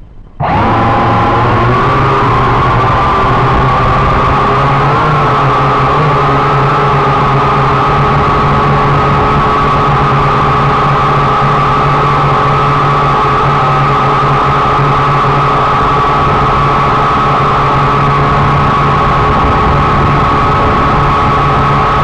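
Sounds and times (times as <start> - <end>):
drone motors and propellers whining: 0.0 - 22.0.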